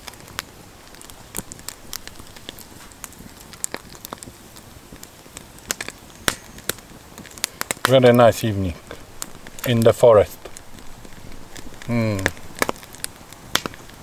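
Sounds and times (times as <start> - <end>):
campfire crackling: 0.0 - 14.0
faint hiss: 0.0 - 14.0.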